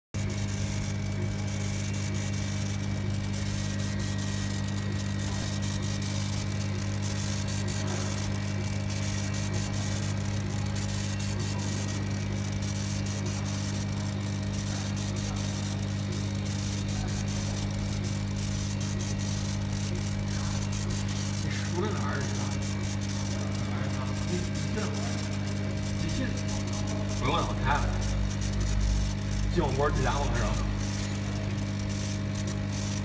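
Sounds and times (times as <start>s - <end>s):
laser engraver humming with hiss: 0.2s - 33.0s.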